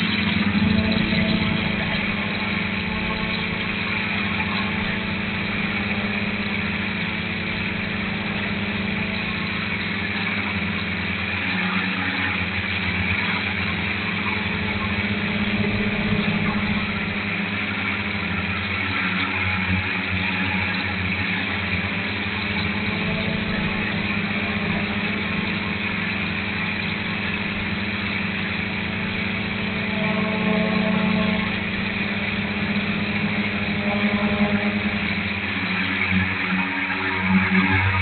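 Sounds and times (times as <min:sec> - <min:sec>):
quadcopter propellers buzzing: 0:00.0 - 0:38.0.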